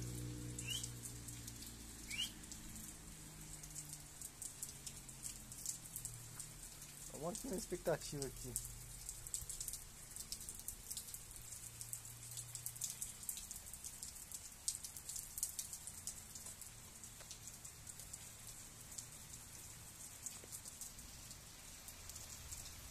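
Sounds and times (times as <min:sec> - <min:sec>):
raindrops tapping close by: 0:00.0 - 0:22.9
steady rain falling: 0:00.0 - 0:22.9.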